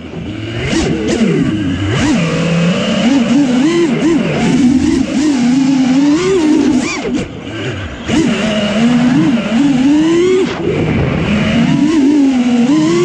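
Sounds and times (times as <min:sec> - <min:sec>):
quadcopter motors buzzing whine: 0:00.0 - 0:13.0.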